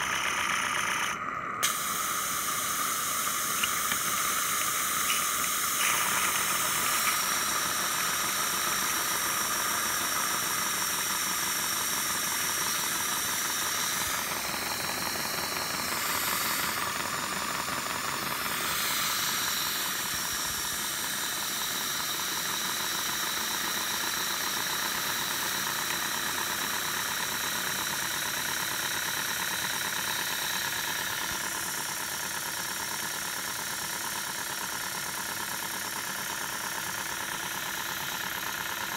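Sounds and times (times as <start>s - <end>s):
model steam locomotive hissing: 0.0s - 38.9s.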